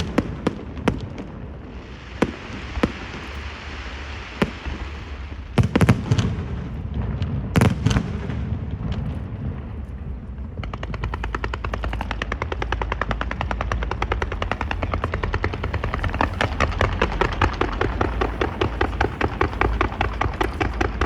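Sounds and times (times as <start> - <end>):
firecracker string crackling: 0.0 - 21.0
low rumble: 0.0 - 21.0.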